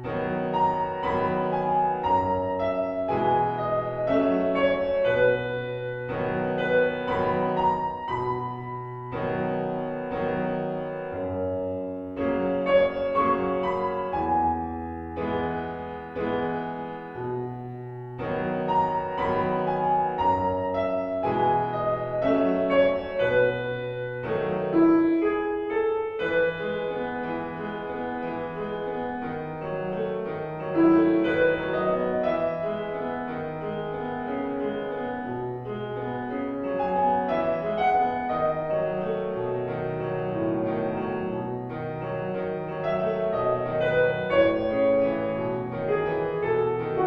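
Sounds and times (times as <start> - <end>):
solo piano piece: 0.0 - 47.0.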